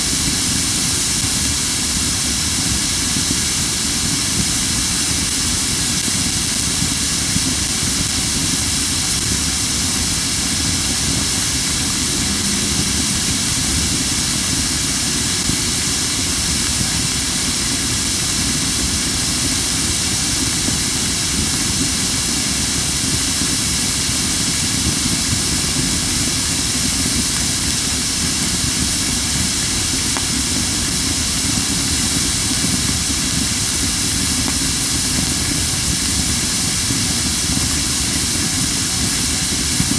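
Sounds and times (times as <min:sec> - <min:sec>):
wood fire hissing: 0:00.0 - 0:39.9.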